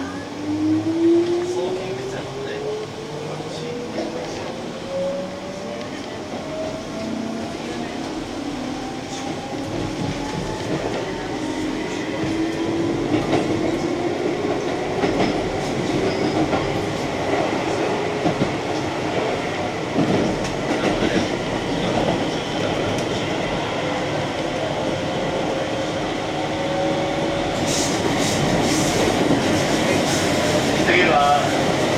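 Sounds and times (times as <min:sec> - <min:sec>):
train rolling rumble: 0:00.0 - 0:31.9.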